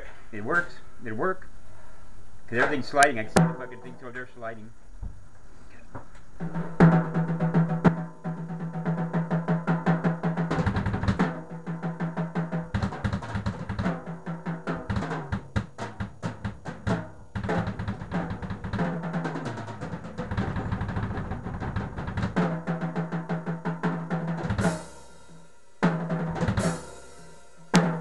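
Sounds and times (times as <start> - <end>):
drum kit played fast: 2.5 - 4.0, 6.4 - 28.0.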